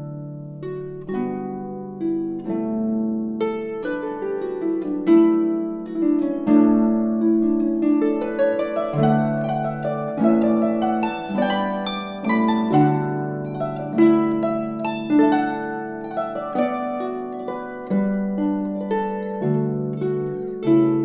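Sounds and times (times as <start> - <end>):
plucked harp melody: 0.0 - 21.0.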